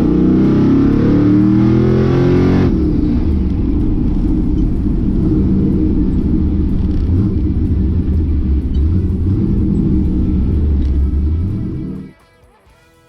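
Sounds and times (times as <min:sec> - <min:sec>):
drag car engine rumbling: 0:00.0 - 0:12.1.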